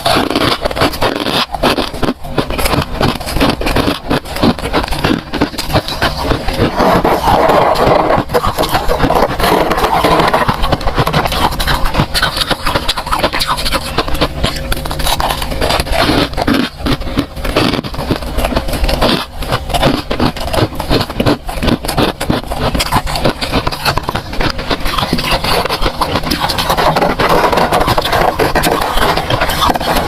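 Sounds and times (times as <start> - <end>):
freezer frost crunching and scraping: 0.0 - 30.0.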